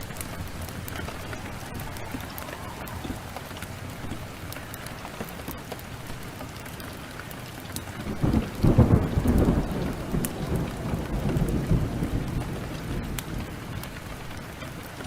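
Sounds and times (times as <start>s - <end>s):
thunder rolling: 0.0s - 5.4s, 8.0s - 15.0s
heavy rain: 0.0s - 15.0s.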